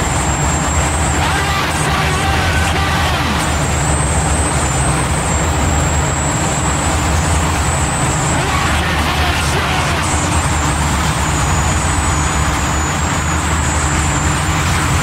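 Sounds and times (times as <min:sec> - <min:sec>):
thin high whine: 0:00.0 - 0:14.8
distorted noise wall: 0:00.0 - 0:15.0.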